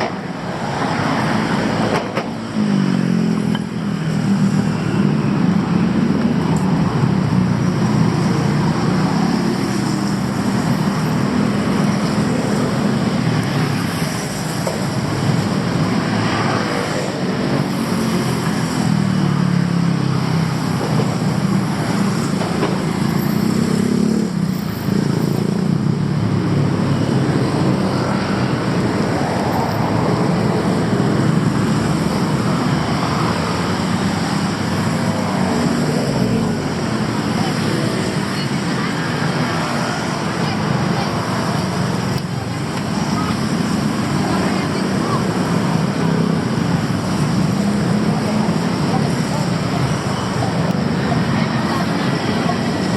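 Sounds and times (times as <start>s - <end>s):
city road traffic: 0.0s - 52.9s.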